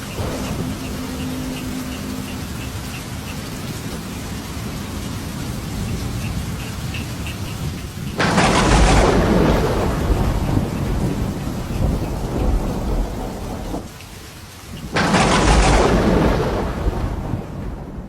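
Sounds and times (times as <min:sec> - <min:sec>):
thunder rumbling: 0:00.0 - 0:14.1, 0:14.7 - 0:18.0
rain hissing: 0:00.0 - 0:18.0.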